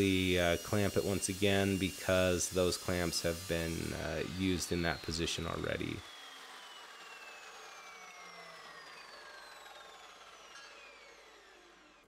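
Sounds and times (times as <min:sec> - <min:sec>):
chop saw motor coasting down: 0:00.0 - 0:12.0.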